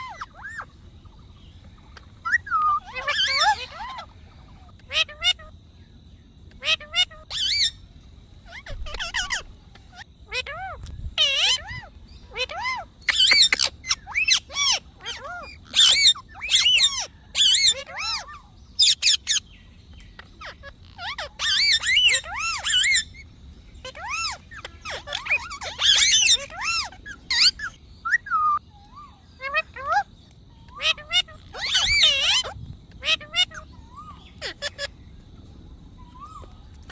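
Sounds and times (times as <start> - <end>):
parrot calling and chattering: 0.0 - 36.9.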